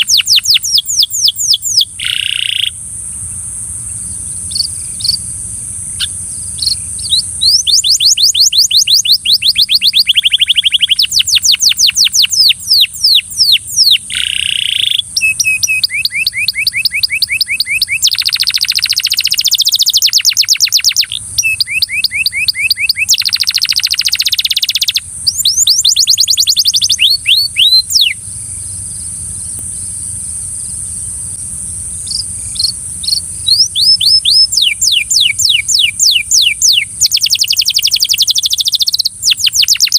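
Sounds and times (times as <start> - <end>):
canary trilling: 0.0 - 2.8, 6.0 - 28.2, 32.1 - 39.9
steady high hiss: 0.0 - 39.9.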